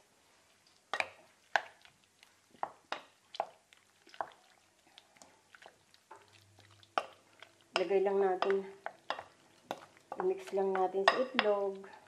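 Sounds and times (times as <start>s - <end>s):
wet squishing of stirred food: 0.0s - 12.0s.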